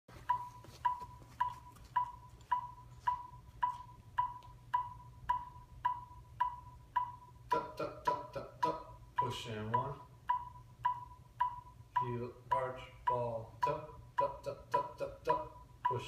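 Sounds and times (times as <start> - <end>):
metronome clicks: 0.3 - 16.0.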